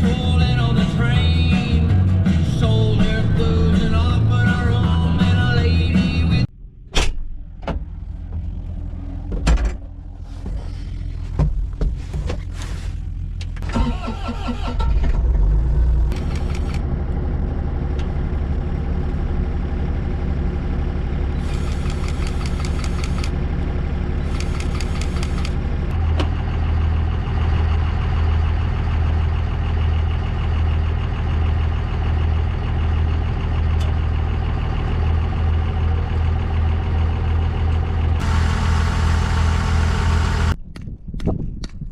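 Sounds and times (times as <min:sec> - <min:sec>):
diesel engine starting and idling: 0:00.0 - 0:40.6.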